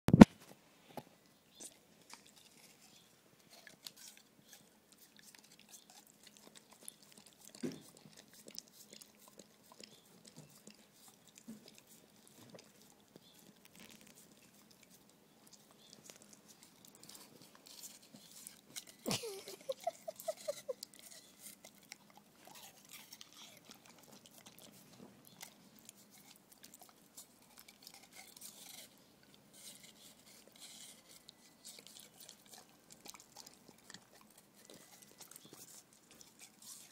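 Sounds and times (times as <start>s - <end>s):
dogs licking and chewing: 1.2s - 36.9s.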